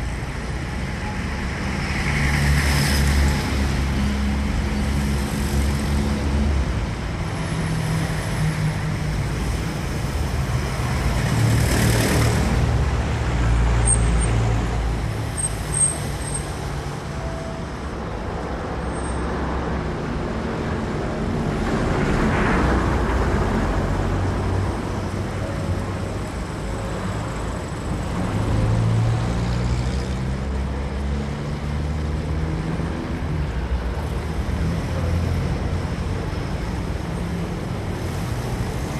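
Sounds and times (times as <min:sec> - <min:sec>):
traffic engine rumble: 0:00.0 - 0:38.9
vehicles passing close by: 0:00.0 - 0:38.9.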